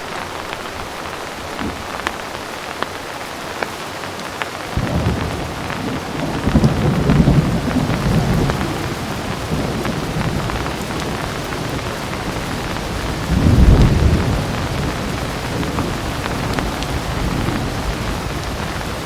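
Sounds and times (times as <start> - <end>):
thunder rumbling: 0.0 - 3.9, 4.6 - 19.0
heavy rain falling: 0.0 - 19.0
sharp rain drop ticks: 0.0 - 19.0.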